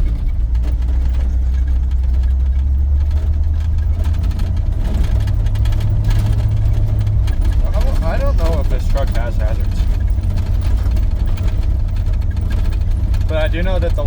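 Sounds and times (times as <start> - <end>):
pickup engine droning: 0.0 - 14.0
road noise: 0.0 - 14.0.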